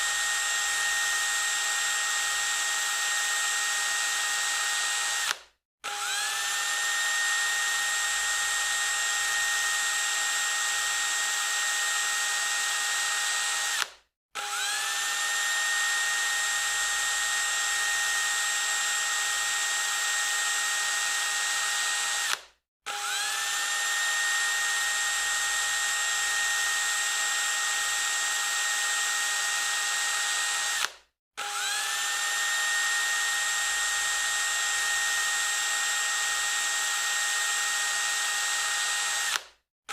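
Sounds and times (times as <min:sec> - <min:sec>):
electric drill whining: 0:00.0 - 0:39.5.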